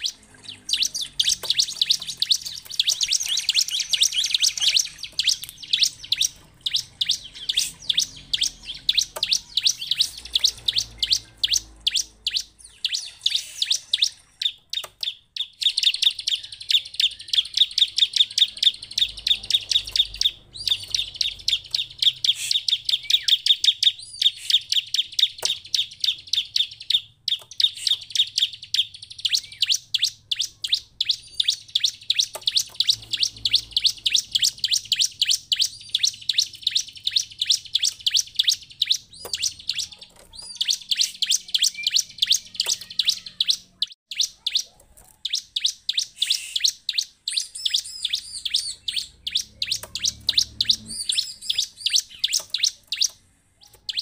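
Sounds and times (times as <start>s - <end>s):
bird song of high sharp chirps: 0.0s - 54.0s.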